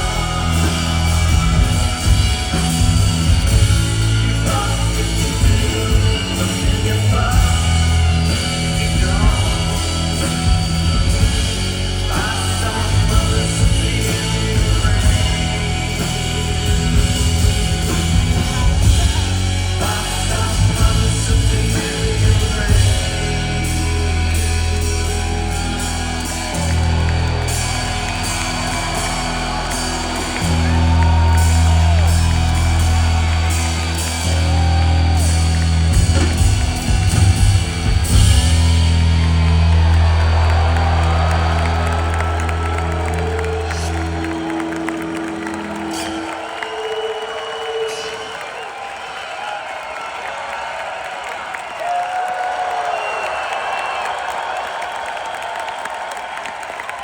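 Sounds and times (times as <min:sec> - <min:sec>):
heavy bass notes: 0:00.0 - 0:46.6
live rock band playing: 0:00.0 - 0:48.4.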